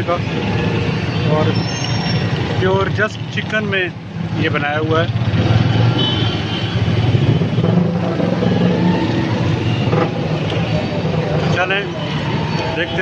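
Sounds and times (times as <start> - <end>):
vehicle engines passing close: 0.0 - 13.0.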